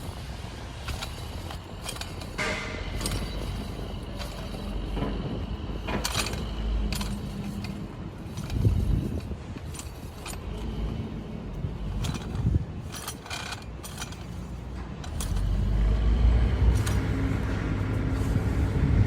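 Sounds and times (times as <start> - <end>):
metal jack stands clinking: 0.0 - 15.8, 16.7 - 18.8
low engine rumble: 0.0 - 19.0.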